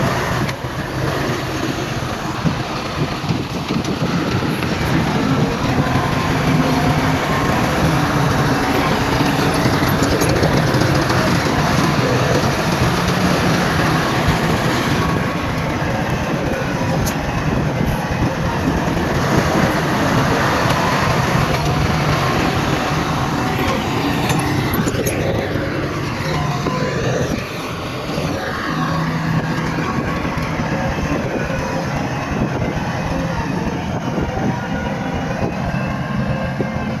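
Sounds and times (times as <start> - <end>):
diesel earthmoving machinery running: 0.0 - 37.0.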